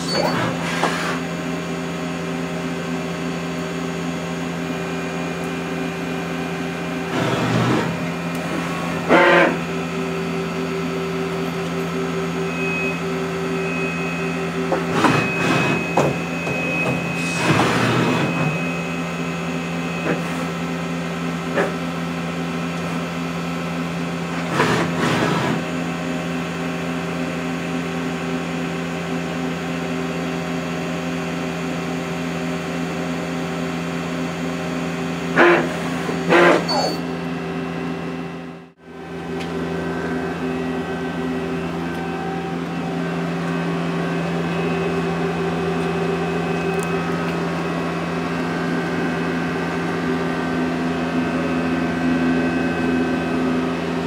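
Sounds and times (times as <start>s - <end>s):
high machine whine: 0.0s - 54.0s
lathe machine hum: 0.0s - 54.0s.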